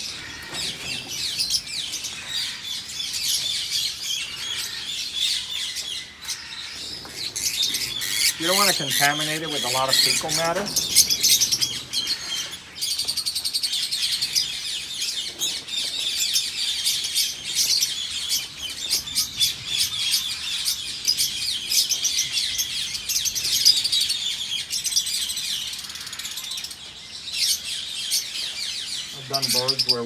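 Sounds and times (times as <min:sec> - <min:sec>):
birds chattering and chirping: 0:00.0 - 0:30.0.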